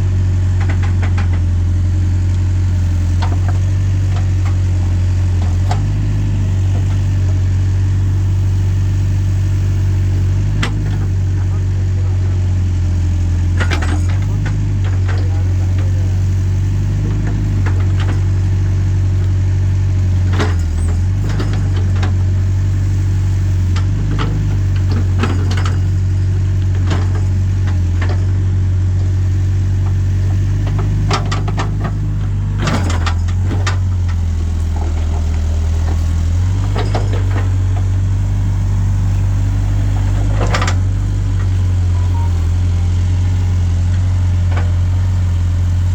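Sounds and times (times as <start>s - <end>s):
diesel engine droning: 0.0s - 45.9s.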